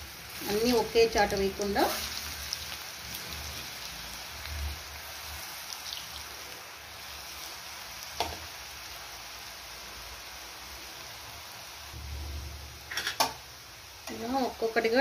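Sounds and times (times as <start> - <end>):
potatoes sizzling in hot oil: 0.0 - 15.0.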